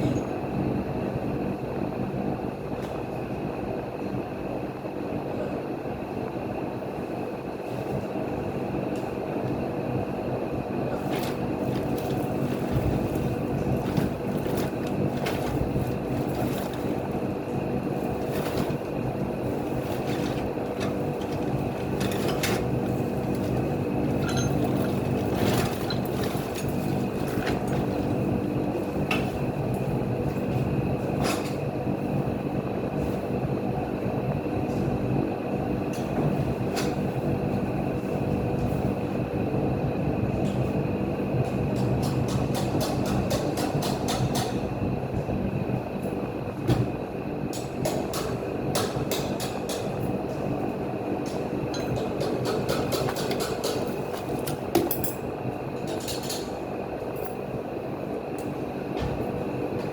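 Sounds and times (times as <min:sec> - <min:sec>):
machine droning hum: 0:00.0 - 0:59.9.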